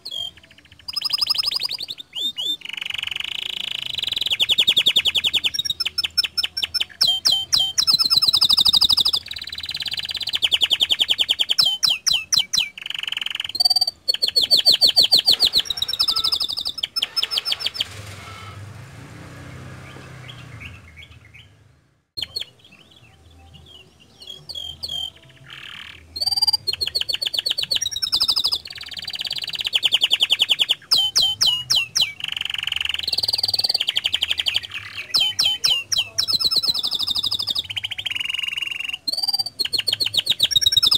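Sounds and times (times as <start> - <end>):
canary singing trills: 0.0 - 18.6, 19.4 - 40.9.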